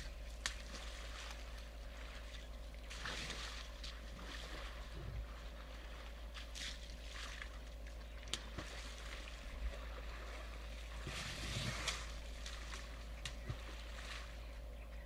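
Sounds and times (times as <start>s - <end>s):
water splashing and sloshing: 0.0s - 14.8s.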